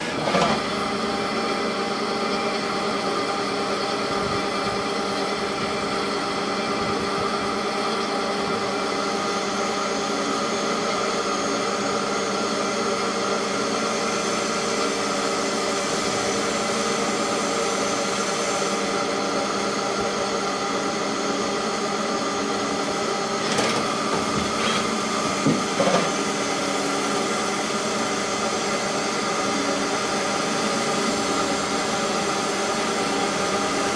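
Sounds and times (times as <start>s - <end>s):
lathe running with machine hum: 0.0s - 33.9s.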